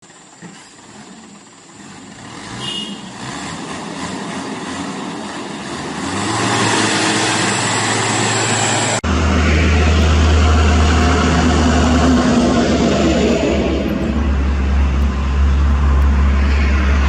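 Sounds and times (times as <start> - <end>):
vehicle engine and road noise: 0.0 - 17.0
low engine hum: 0.1 - 17.0.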